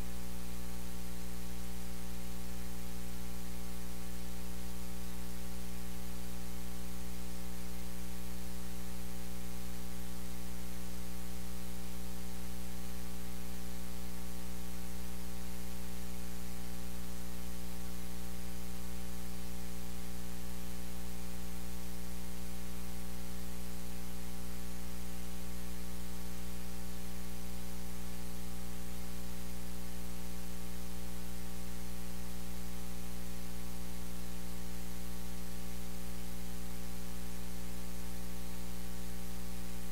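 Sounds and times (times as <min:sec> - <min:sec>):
constant hiss: 0:00.0 - 0:39.9
electrical mains hum: 0:00.0 - 0:39.9.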